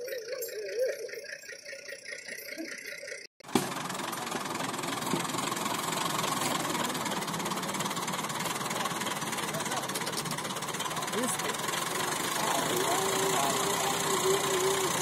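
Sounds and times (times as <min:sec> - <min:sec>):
tractor diesel engine clatter: 0:00.0 - 0:15.0.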